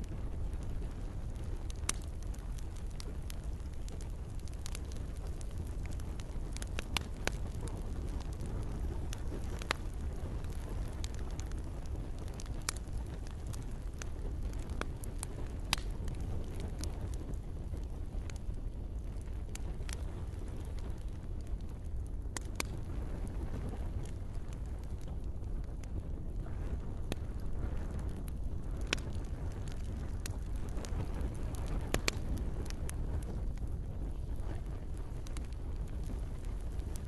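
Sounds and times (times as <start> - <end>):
campfire crackling and popping: 0.0 - 37.0
soft hiss of rain: 0.0 - 37.0.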